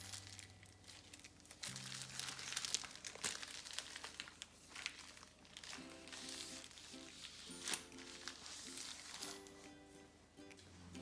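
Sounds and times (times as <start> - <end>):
plastic bags crinkling: 0.0 - 9.8.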